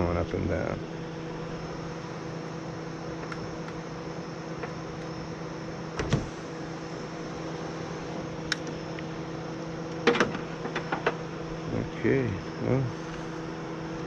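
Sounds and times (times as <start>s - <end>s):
power window motor humming: 0.9s - 14.0s.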